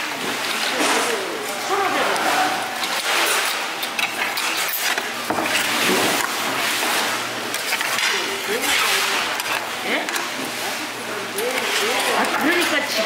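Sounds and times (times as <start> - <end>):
busy market background noise: 0.0 - 13.0.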